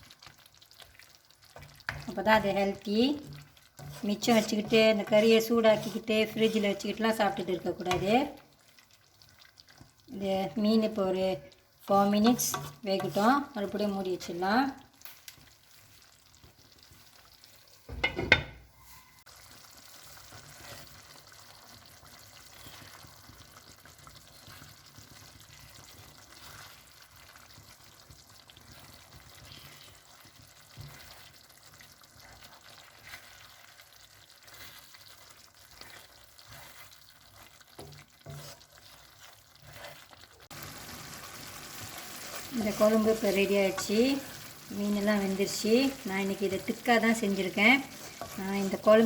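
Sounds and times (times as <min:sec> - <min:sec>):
curry simmering in a pot: 0:00.0 - 0:49.0.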